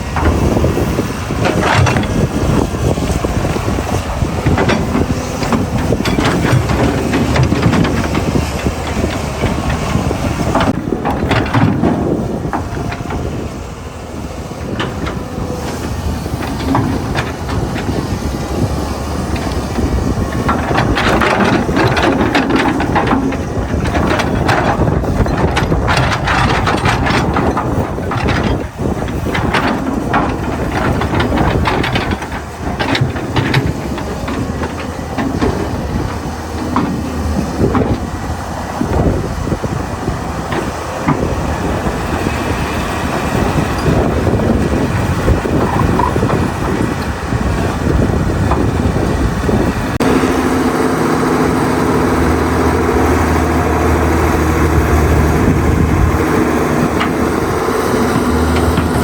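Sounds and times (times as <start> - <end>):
excavator engine running: 0.0 - 59.0
knocks clanks and scrapes: 0.0 - 59.0.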